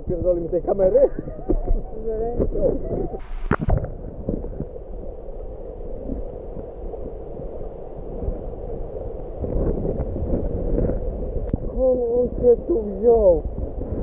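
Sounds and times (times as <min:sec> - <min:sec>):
muffled underwater stream rushing: 0:00.0 - 0:14.0.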